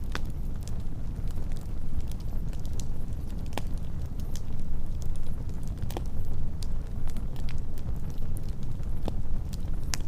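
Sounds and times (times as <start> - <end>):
fire crackling and popping: 0.0 - 10.0
wood fire roaring: 0.0 - 10.0.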